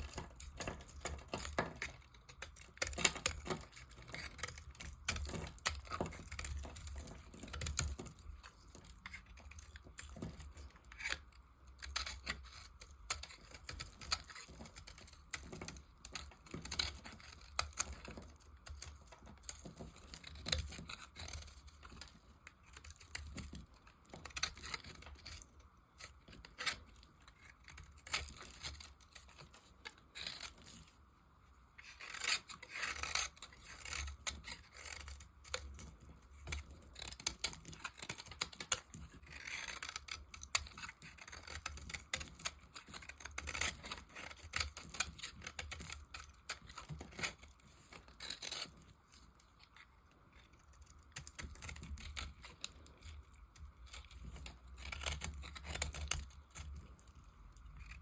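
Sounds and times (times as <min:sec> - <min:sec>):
blade carving soap: 0:00.0 - 0:31.1, 0:31.7 - 0:58.0.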